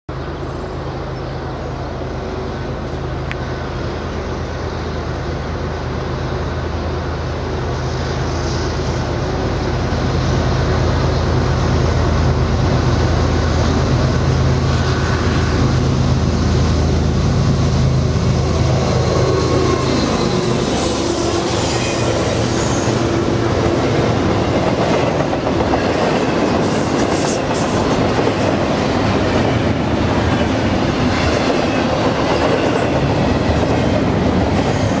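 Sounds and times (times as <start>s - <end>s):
diesel locomotive engines: 0.1s - 35.0s.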